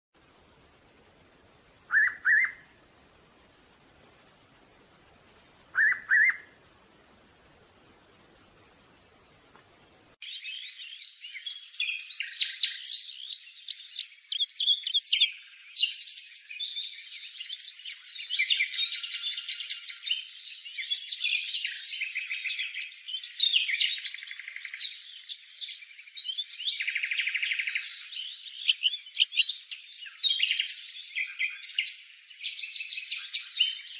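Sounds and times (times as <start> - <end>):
birds chirping and trilling: 0.4 - 33.9.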